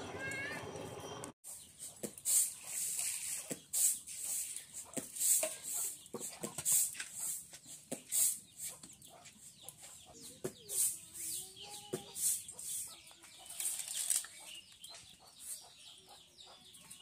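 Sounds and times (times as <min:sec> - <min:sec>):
chickens clucking: 0:01.8 - 0:17.0.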